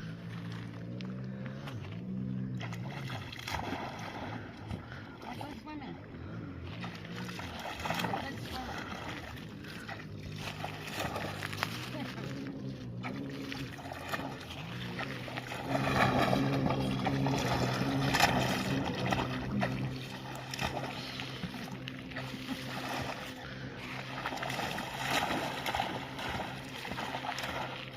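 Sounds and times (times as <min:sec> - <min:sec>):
low motor hum: 0:00.0 - 0:27.9
river water splashing: 0:00.0 - 0:27.9.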